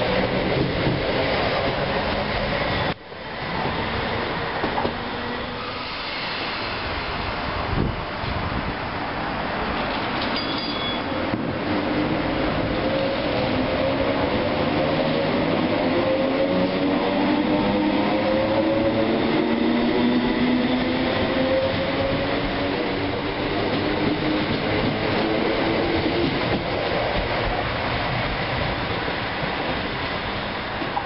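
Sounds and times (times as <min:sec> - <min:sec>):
wheels rumbling on rail: 0:00.0 - 0:31.0.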